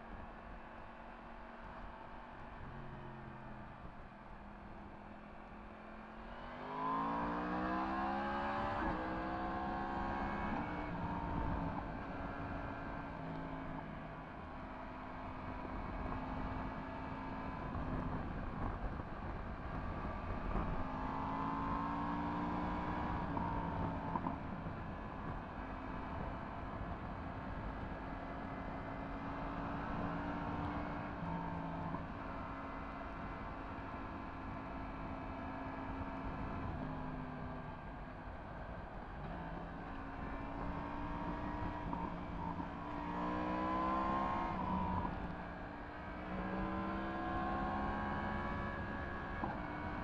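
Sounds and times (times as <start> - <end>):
motorcycle engine accelerating: 6.2 - 50.0.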